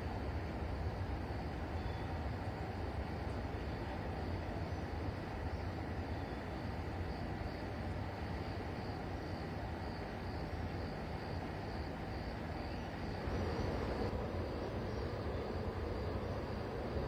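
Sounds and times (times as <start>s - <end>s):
electric train rumbling on tracks: 0.0s - 17.0s.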